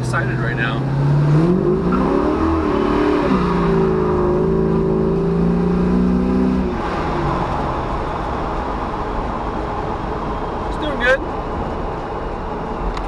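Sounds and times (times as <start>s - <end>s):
car engine accelerating: 0.0s - 13.0s
road noise: 0.0s - 13.0s.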